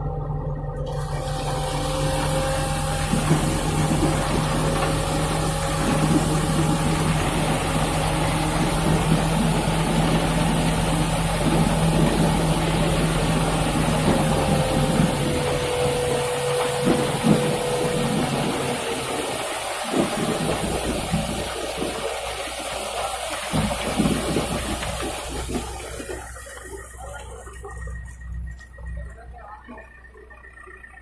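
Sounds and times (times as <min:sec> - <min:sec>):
diesel engine humming: 0:00.0 - 0:31.0
wet concrete sliding and splashing: 0:01.0 - 0:29.1.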